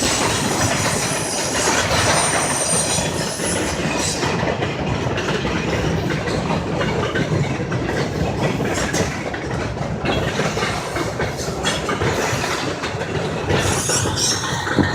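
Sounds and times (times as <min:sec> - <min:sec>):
freight train cars rolling past: 0:00.0 - 0:14.9
wheels clattering over rail joints: 0:00.0 - 0:14.9.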